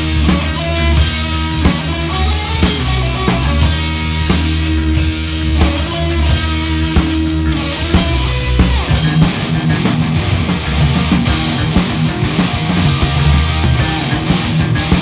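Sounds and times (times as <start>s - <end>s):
drum beat: 0.0s - 15.0s
punk rock song: 0.0s - 15.0s.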